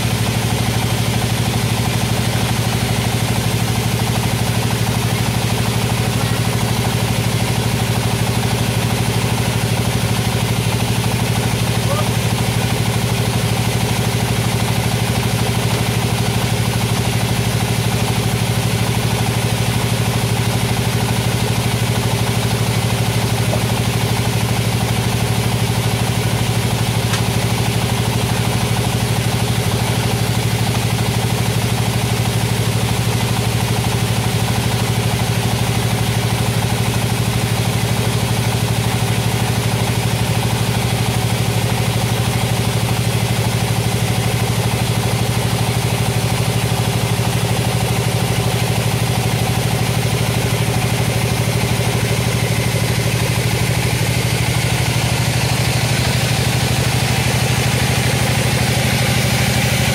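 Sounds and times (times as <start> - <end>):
sawmill engine humming: 0.0 - 59.9.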